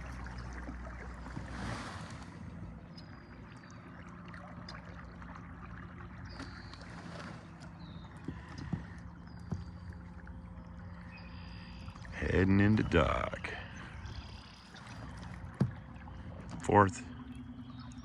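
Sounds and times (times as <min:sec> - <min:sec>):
electric trolling motor humming: 0:00.0 - 0:18.0
water washing along hull: 0:00.0 - 0:18.0.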